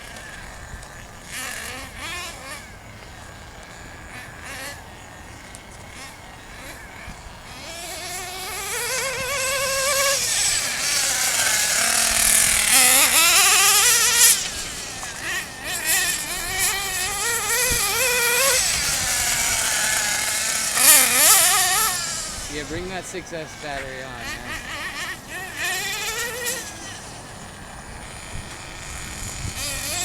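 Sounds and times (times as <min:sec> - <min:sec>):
rc car engine revving: 0:00.0 - 0:30.0.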